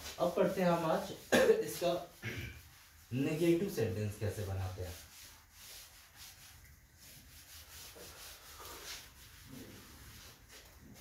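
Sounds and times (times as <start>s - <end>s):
duster swishing on chalkboard: 0.0s - 11.0s.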